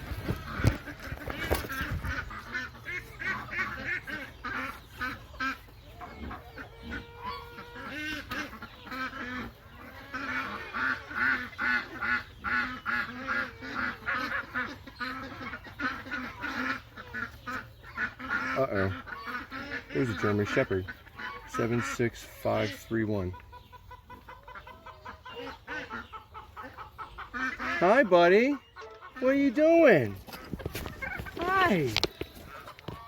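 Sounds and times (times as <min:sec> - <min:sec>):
flock of birds calling: 0:00.0 - 0:33.0.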